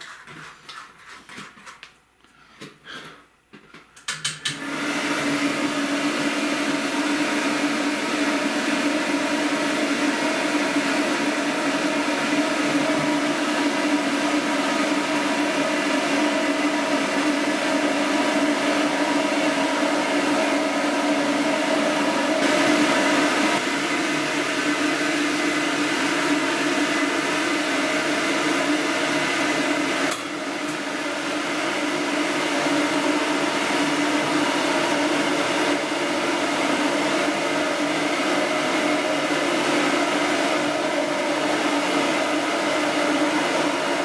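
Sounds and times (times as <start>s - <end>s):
blow dryer running: 4.1s - 44.0s.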